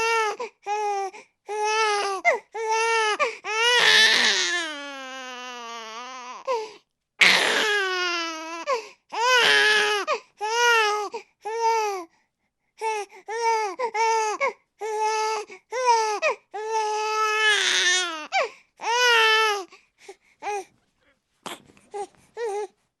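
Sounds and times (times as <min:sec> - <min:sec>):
baby crying: 0:00.0 - 0:06.6, 0:07.2 - 0:12.1, 0:12.8 - 0:19.7, 0:21.5 - 0:22.7.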